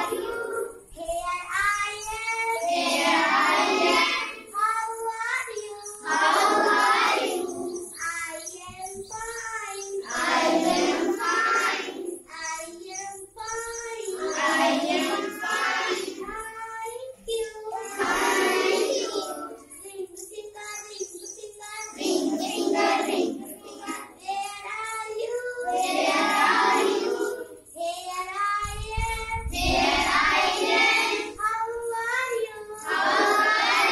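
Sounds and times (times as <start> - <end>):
young children singing: 0.0 - 33.9.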